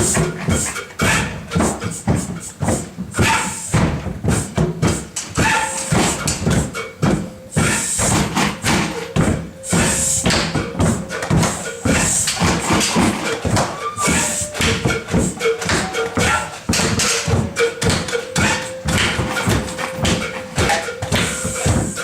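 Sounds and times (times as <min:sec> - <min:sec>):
feet stamping on floor: 0:00.0 - 0:22.0.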